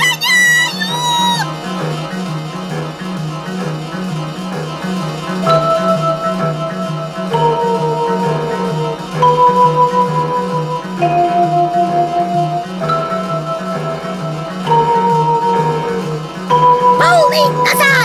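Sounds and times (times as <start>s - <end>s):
cartoon background music: 0.0s - 18.0s.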